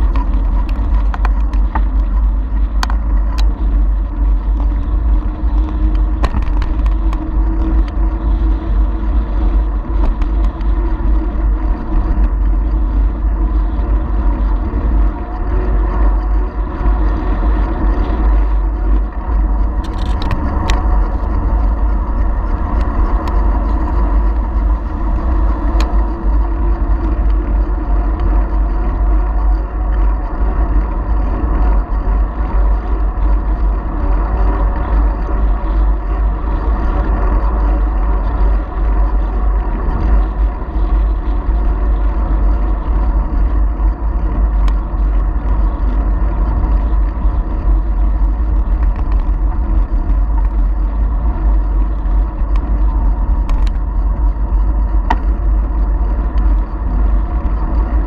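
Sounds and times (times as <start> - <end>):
bicycle whirring hum: 0.0 - 58.0
wind buffeting microphone: 0.0 - 58.0.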